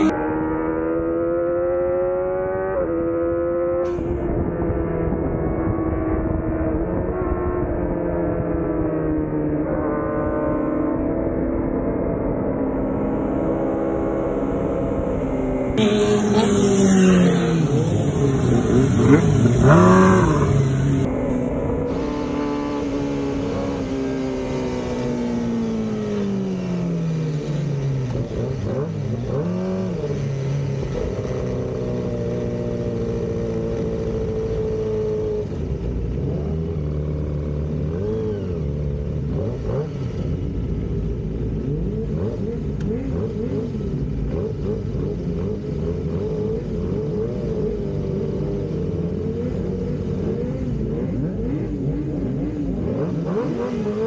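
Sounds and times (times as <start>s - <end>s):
motorcycle engine revving: 0.0s - 54.0s
other motorcycles idling and revving: 0.0s - 54.0s.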